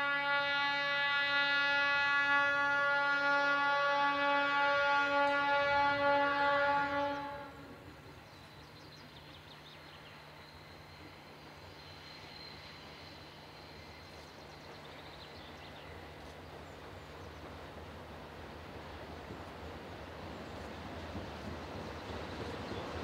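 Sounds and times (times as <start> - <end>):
distant diesel locomotive drone: 0.0 - 23.0
outdoor background noise: 0.0 - 23.0.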